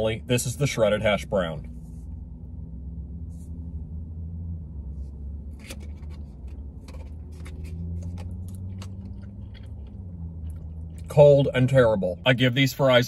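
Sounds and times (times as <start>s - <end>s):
low car rumble: 0.0s - 13.0s.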